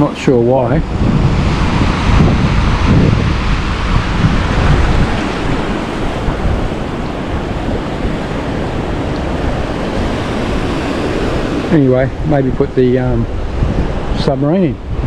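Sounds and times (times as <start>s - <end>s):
rough sea surf breaking: 0.0s - 15.0s
wind buffeting microphone: 0.0s - 15.0s.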